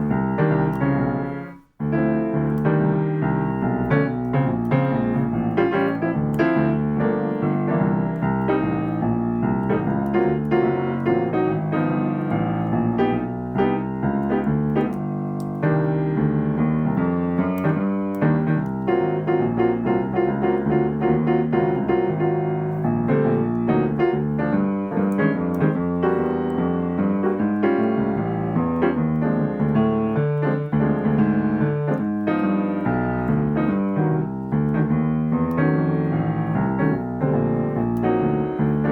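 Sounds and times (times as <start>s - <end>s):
jazz piano chords: 0.0s - 38.9s.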